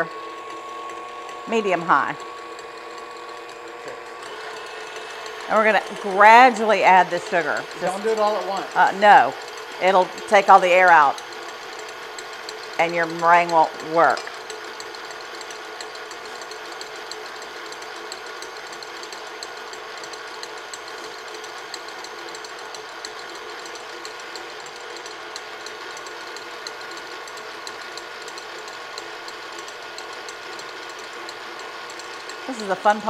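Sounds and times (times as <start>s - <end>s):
stand mixer whisking: 0.0s - 33.0s.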